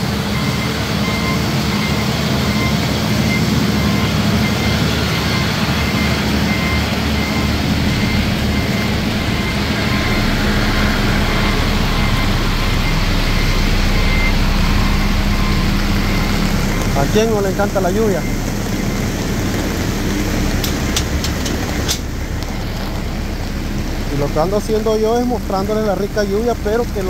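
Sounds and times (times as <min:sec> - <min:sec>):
construction machinery engine: 0:00.0 - 0:27.0
reversing alarm beeping: 0:00.0 - 0:27.0
rain hissing: 0:00.1 - 0:27.0.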